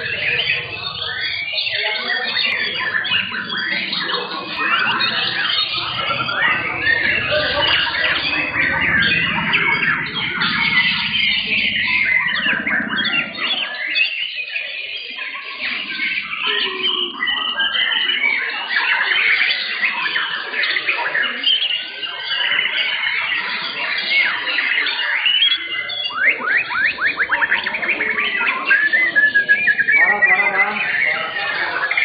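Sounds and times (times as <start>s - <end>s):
birds singing overlapping whistles: 0.0s - 32.0s
low background murmur: 0.0s - 32.0s.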